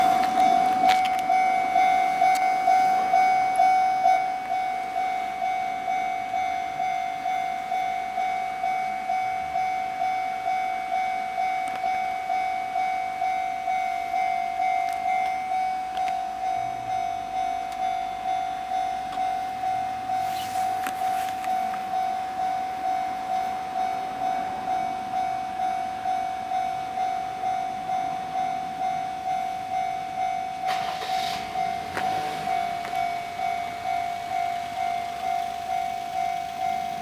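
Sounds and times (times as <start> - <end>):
level-crossing warning bell: 0.0 - 37.0.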